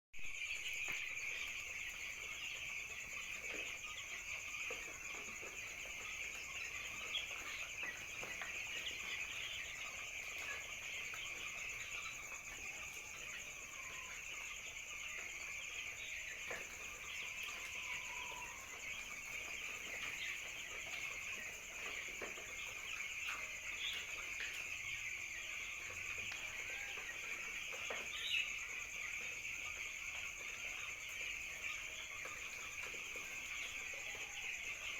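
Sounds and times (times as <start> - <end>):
chicks peeping: 0.2 - 34.9.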